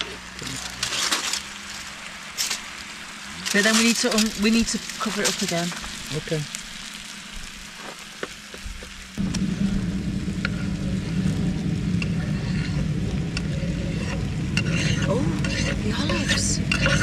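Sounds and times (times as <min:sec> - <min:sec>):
steady low rumble: 0:00.0 - 0:17.0
chicken frying in a pan: 0:01.4 - 0:17.0.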